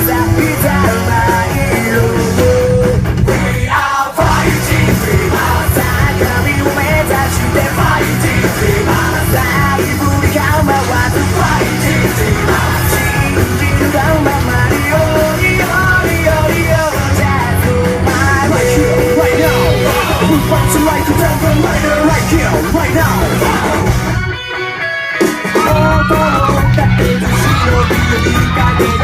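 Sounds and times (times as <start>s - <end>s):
person singing: 0.0s - 23.9s, 25.4s - 29.0s
rock band playing loudly: 0.0s - 29.0s.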